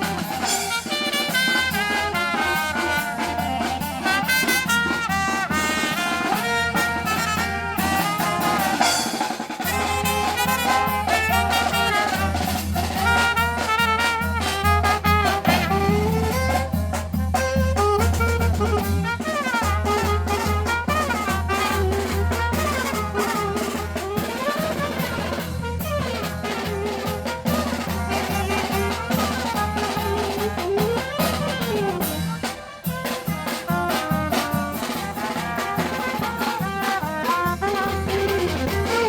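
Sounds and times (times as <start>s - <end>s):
trumpets and trombones: 0.0s - 39.0s.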